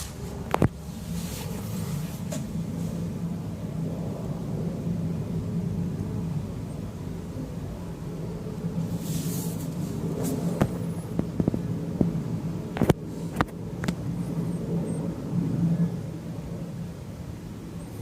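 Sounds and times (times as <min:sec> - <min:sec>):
distant helicopter droning: 0:00.0 - 0:18.0.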